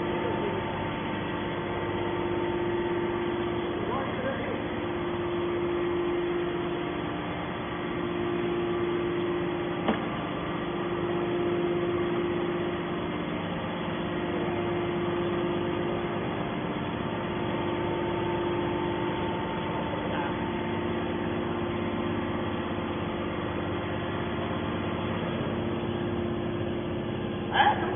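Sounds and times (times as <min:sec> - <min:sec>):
hydraulic power unit humming: 0:00.0 - 0:27.9.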